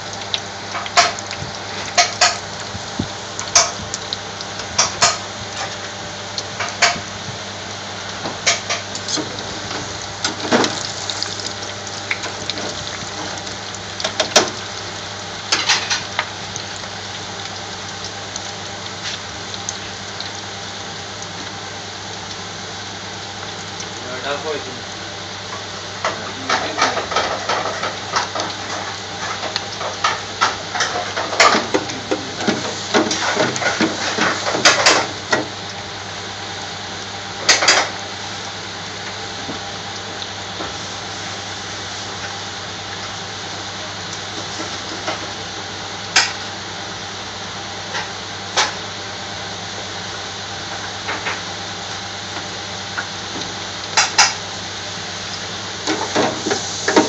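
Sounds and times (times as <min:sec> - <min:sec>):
oil bubbling and sizzling in fryer: 0:00.0 - 0:57.0.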